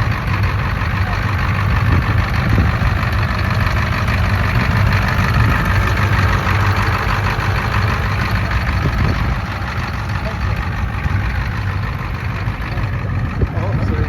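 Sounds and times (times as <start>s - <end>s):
vintage car engine idling: 0.0s - 14.0s.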